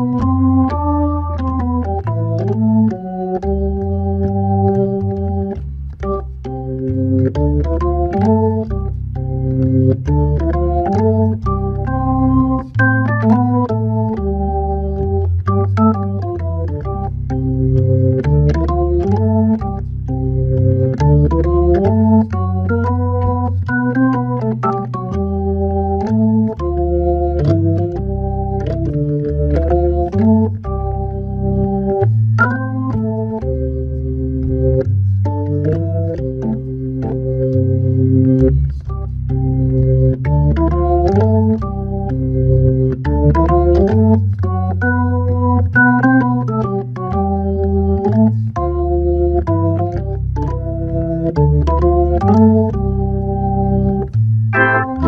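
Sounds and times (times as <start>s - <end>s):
jazz organ waltz: 0.0s - 55.0s.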